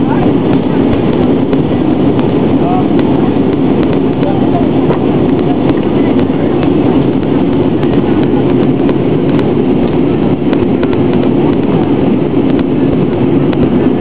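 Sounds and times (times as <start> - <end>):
airliner cabin engine hum: 0.0 - 14.0.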